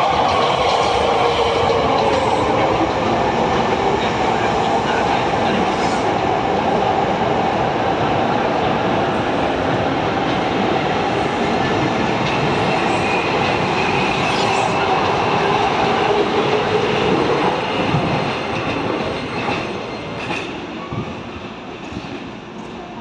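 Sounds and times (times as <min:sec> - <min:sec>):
electric train passing: 0:00.0 - 0:20.8
rail running noise: 0:00.0 - 0:23.0.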